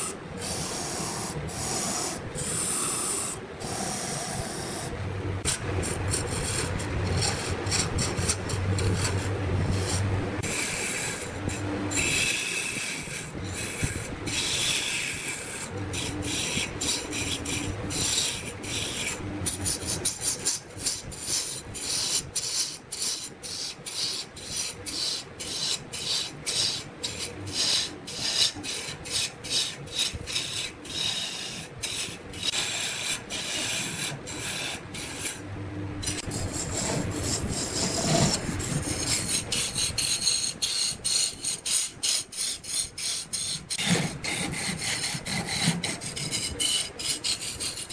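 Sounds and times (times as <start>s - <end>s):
tool scraping wood on lathe: 0.0s - 47.9s.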